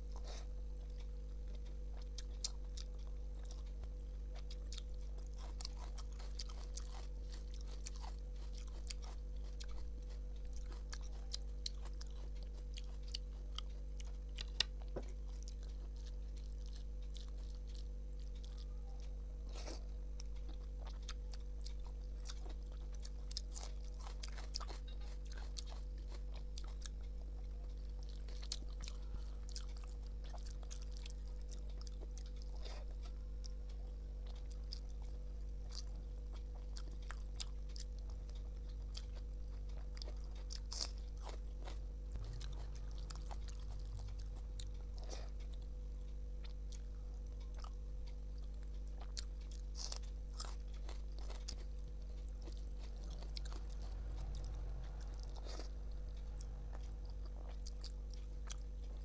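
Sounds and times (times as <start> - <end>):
close chewing of food: 0.0 - 59.0
low electrical hum: 0.0 - 59.0.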